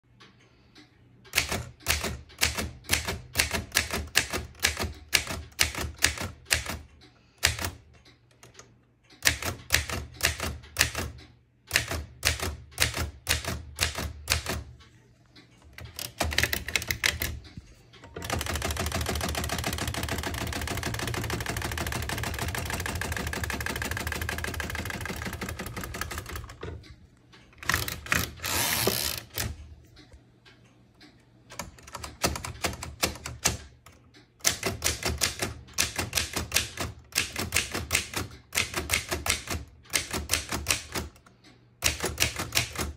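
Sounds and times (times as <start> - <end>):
typewriter keys clacking: 1.3 - 14.7, 15.7 - 26.8, 27.6 - 29.6, 31.5 - 42.9
typewriter carriage return: 1.3 - 14.8, 15.6 - 26.9, 27.5 - 29.6, 31.5 - 42.9.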